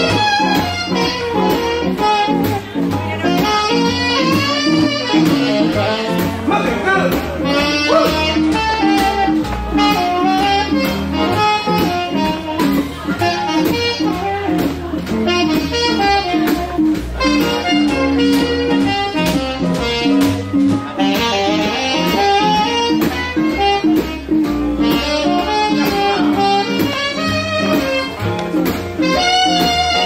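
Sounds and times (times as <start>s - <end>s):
saxophone: 0.0s - 30.0s
swing jazz band playing: 0.0s - 30.0s.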